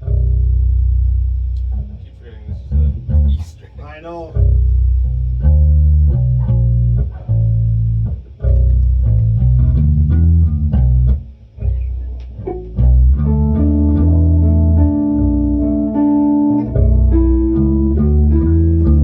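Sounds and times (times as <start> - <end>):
bass guitar riff: 0.0 - 19.0.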